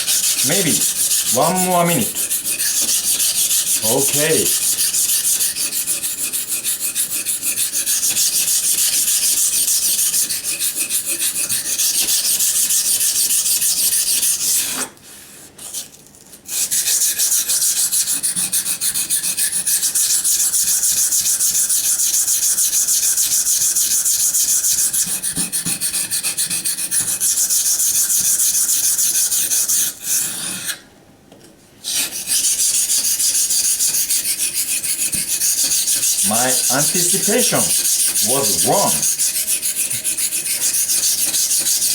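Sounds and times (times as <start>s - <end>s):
knife scraping on a whetstone: 0.0s - 1.3s, 2.0s - 14.9s, 15.6s - 30.8s, 31.8s - 41.9s.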